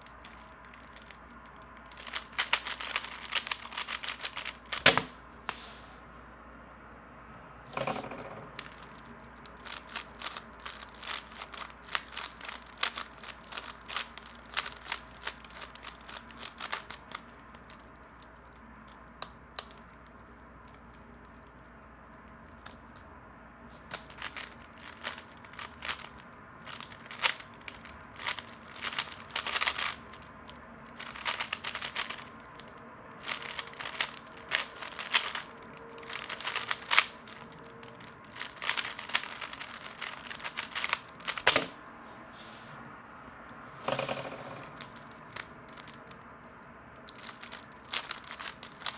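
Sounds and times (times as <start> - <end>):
puzzle cube plastic clicking: 0.0 - 5.2, 7.8 - 21.7, 22.3 - 23.1, 23.8 - 41.8, 43.9 - 48.9.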